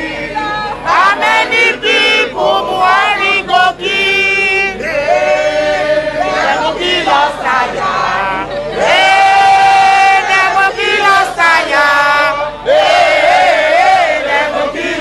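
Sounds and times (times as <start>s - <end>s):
crowd of protesters singing: 0.0s - 15.0s.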